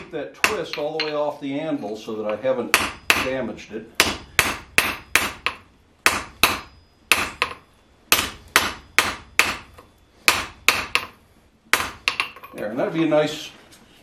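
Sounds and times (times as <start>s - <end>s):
hammer striking steel on anvil: 0.0s - 1.3s, 2.2s - 12.6s.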